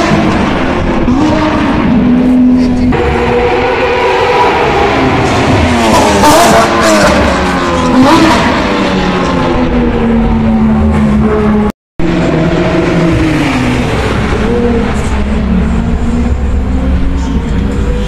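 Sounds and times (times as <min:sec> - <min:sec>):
sports car engines revving: 0:00.0 - 0:18.0.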